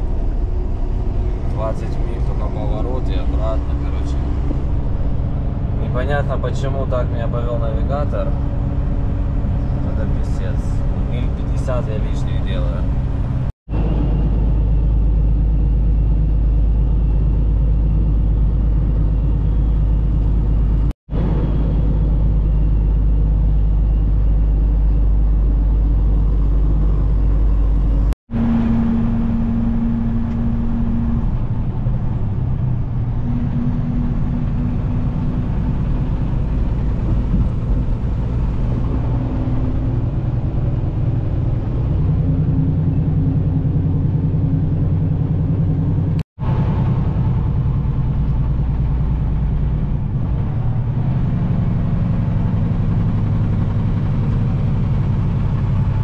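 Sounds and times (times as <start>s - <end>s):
steady hum note: 0.0s - 56.0s
truck diesel engine drone: 0.0s - 56.0s.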